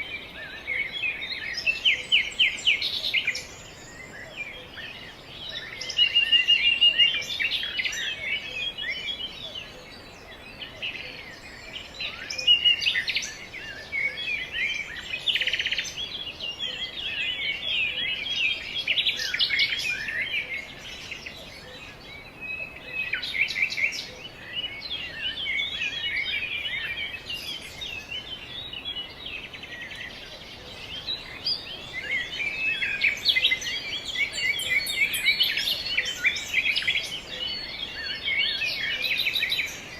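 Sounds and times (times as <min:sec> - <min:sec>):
flock of songbirds chirping: 0:00.0 - 0:39.9.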